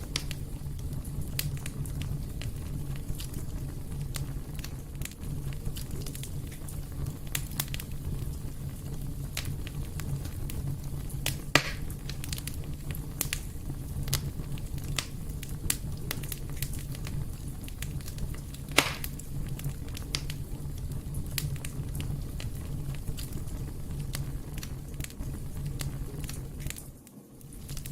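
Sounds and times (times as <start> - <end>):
fire crackling in a fireplace: 0.0 - 27.9
loud fire pops: 0.0 - 27.9.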